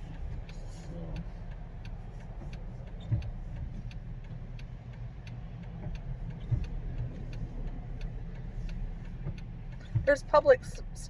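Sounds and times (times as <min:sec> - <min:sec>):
car road noise rumble: 0:00.0 - 0:11.0
light ticks: 0:00.0 - 0:11.0.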